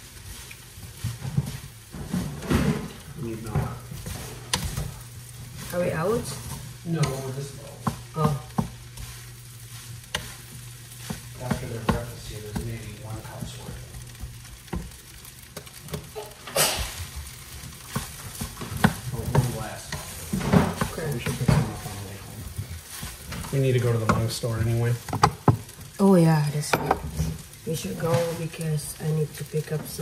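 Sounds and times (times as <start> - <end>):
fried rice sizzling in a pan: 0.0 - 30.0
wooden spatula scraping a pan: 0.0 - 30.0.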